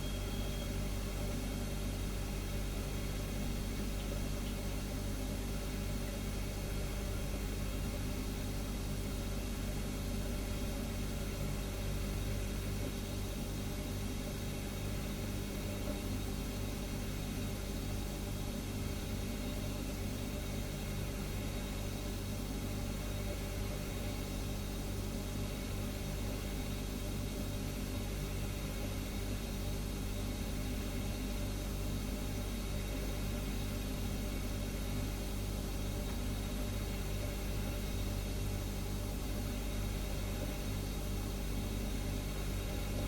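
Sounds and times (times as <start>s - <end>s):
refrigerator humming: 0.0s - 43.0s.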